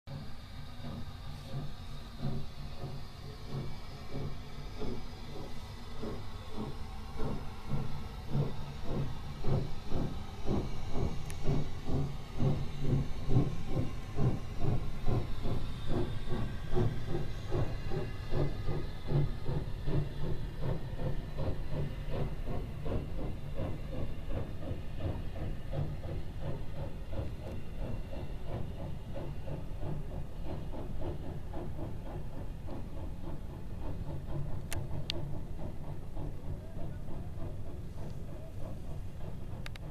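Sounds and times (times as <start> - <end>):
steam hissing: 0.1 - 39.9
steam locomotive chuffing: 0.1 - 39.9.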